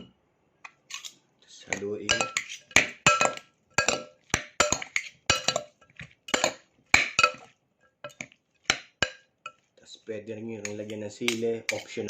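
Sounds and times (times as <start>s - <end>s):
utensil clinking against a bowl: 0.7s - 7.5s, 8.1s - 9.7s, 10.6s - 12.0s.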